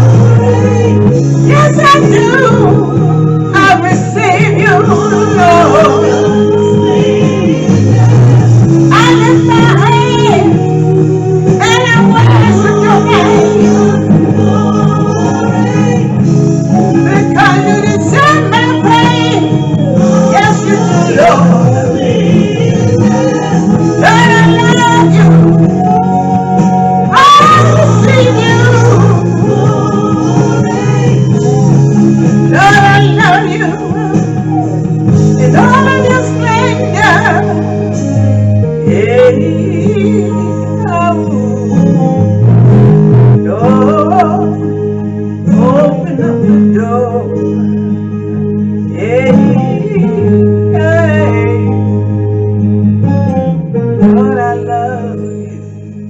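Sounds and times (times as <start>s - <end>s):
gospel song singing: 0.0s - 56.0s
guitar accompaniment: 0.0s - 56.0s.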